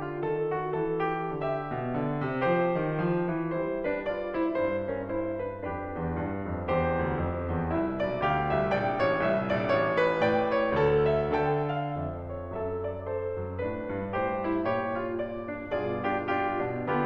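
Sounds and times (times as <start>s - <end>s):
piano-like keyboard notes: 0.0s - 17.0s.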